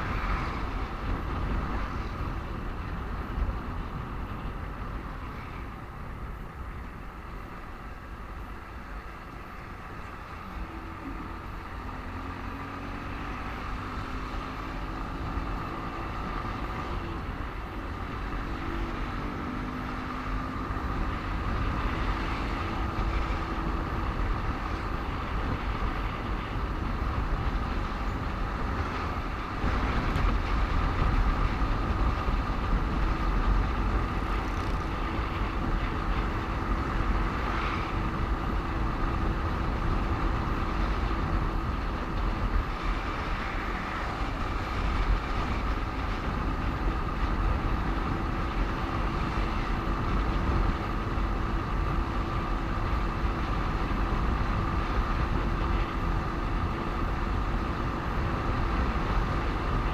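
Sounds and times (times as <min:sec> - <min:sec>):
wind rumbling on microphone: 0:00.0 - 0:59.9
motorcycle engine running: 0:09.9 - 0:59.9.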